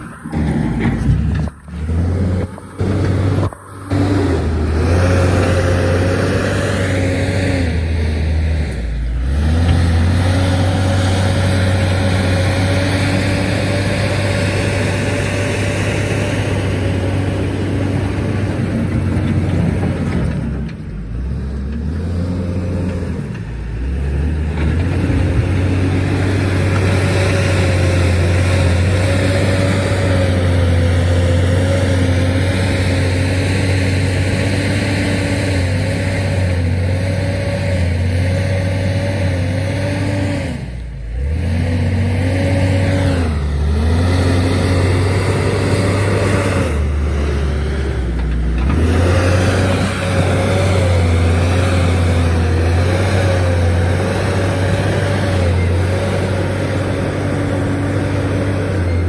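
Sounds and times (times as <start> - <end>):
diesel loader engine under load: 0.0 - 59.0.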